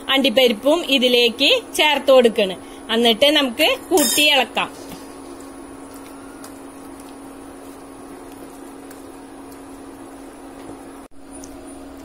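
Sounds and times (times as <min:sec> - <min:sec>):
induction cooktop hum: 0:00.0 - 0:12.0.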